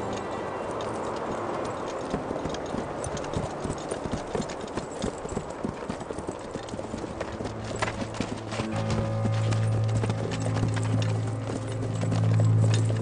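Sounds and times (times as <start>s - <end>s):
horse hooves on stony ground: 0.0s - 13.0s.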